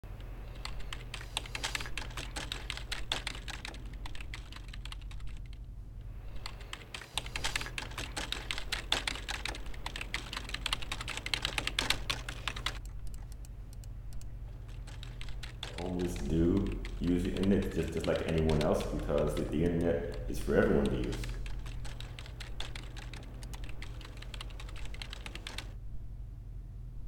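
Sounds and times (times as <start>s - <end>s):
steady low hum: 0.0s - 27.0s
computer keyboard typing: 0.5s - 5.6s, 6.3s - 25.8s.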